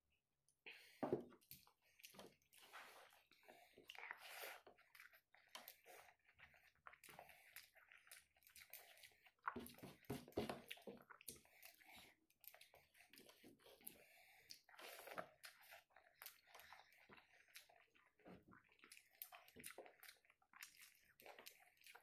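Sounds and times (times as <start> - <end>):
faint chewing: 1.0 - 22.0
fingers mashing wet food: 1.3 - 22.0.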